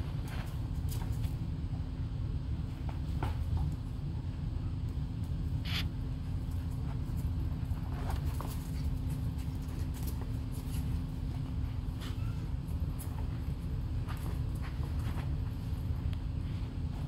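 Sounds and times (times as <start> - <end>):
puppy paws scratching and pattering: 0.0 - 1.8, 4.7 - 17.0
steady low hum: 0.0 - 17.0.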